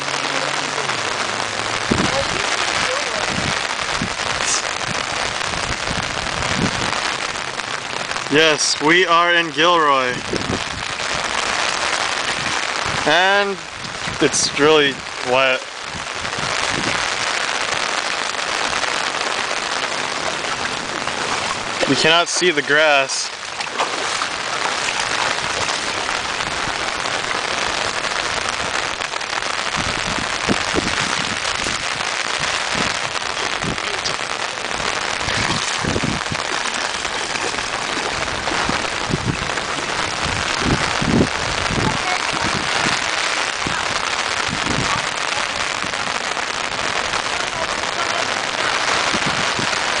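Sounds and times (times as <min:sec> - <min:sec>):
heavy rain hissing: 0:00.0 - 0:50.0.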